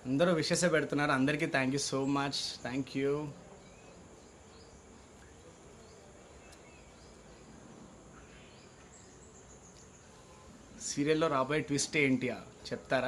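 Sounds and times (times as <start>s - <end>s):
steady low hiss: 0.0s - 13.0s
faint high chirps: 1.7s - 13.0s.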